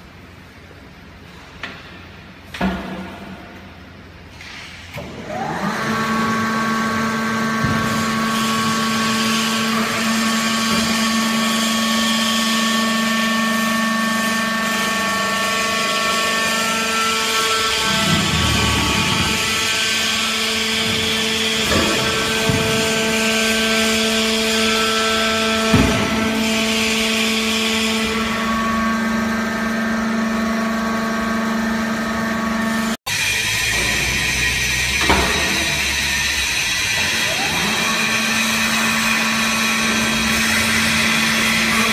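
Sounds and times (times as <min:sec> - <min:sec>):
hydraulic pump motor whining: 0:04.4 - 0:41.9.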